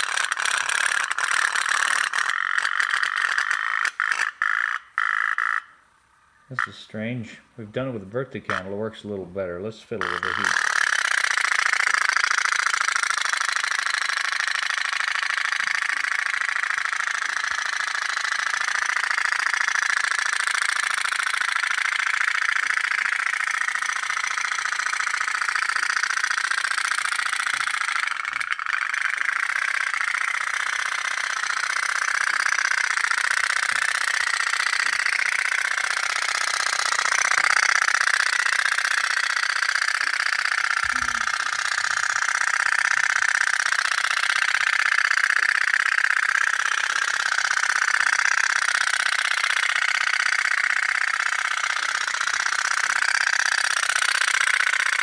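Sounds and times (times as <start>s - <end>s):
toy steam boat rattling buzz: 0.0s - 6.8s, 8.2s - 55.0s.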